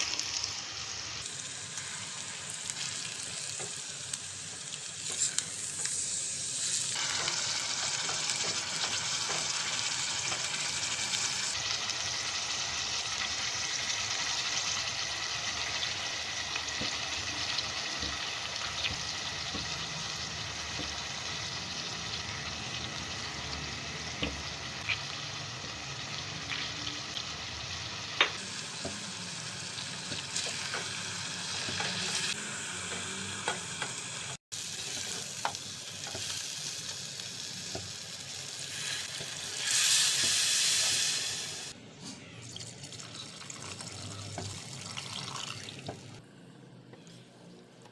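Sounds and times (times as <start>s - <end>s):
meat sizzling in oil: 0.0s - 41.8s.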